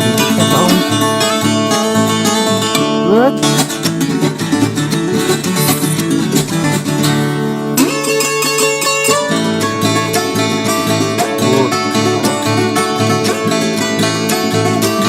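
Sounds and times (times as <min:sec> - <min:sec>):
fast plucked acoustic guitar: 0:00.0 - 0:15.0.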